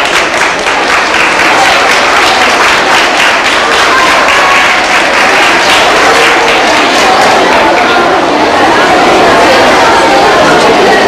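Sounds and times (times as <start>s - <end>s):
audience clapping: 0.0s - 8.9s
voices: 0.0s - 11.0s.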